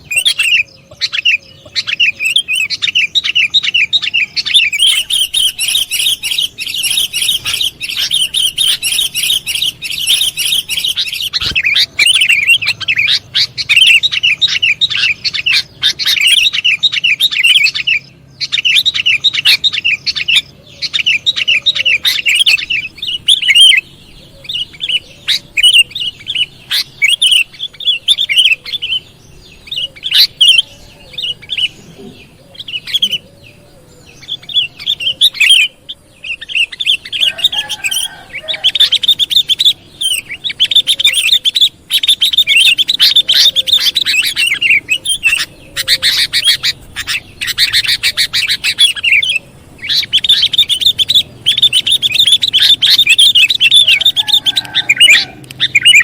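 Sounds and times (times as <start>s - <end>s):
birds chirping in rapid runs: 0.0s - 56.0s.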